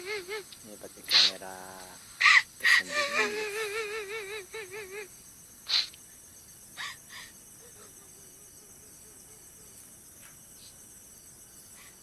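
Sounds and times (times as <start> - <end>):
crickets and insects chirping: 0.0 - 12.0
faint mosquito whine: 0.0 - 12.0.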